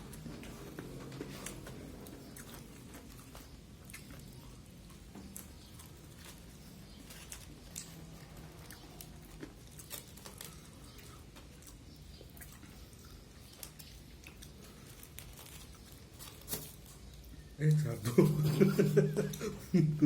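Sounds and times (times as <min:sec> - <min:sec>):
person chewing fried chicken: 0:00.0 - 0:17.6.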